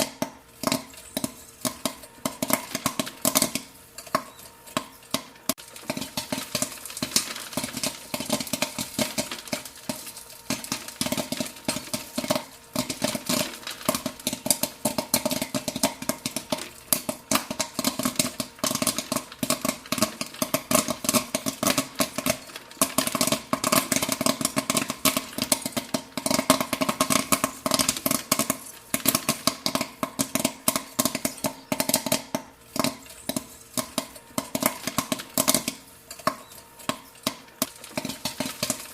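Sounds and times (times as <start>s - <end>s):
popcorn kernels popping: 0.0s - 38.9s.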